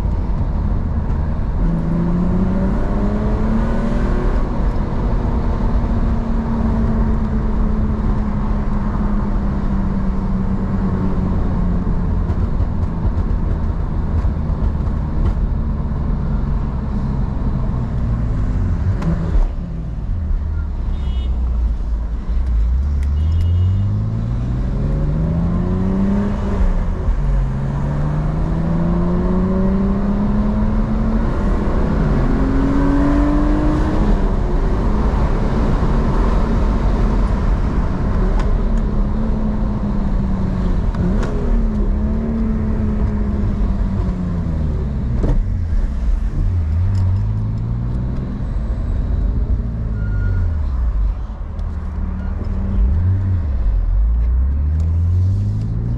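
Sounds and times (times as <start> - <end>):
car engine accelerating through gears: 0.0 - 20.2, 22.4 - 55.9.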